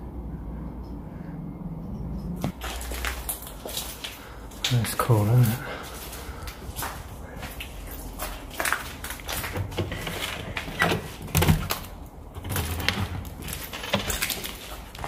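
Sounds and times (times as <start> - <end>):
footsteps on debris: 2.4 - 15.0.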